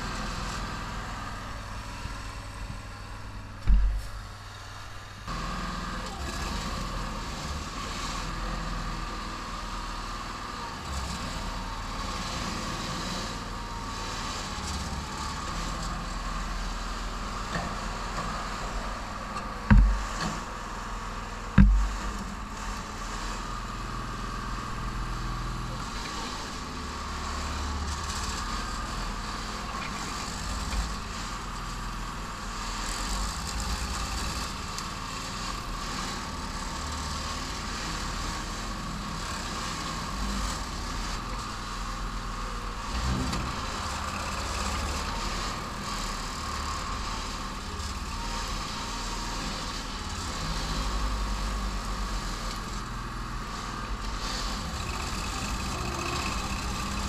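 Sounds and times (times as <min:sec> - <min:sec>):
backhoe engine running: 0:00.0 - 0:57.0.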